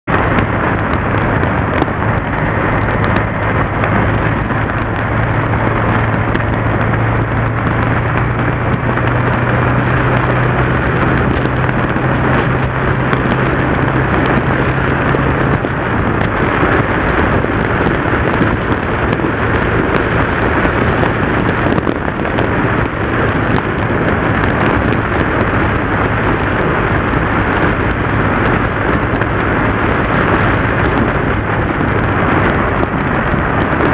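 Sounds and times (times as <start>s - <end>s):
motorcycle engine low hum: 0.0s - 33.9s
wind noise on microphone: 0.0s - 33.9s.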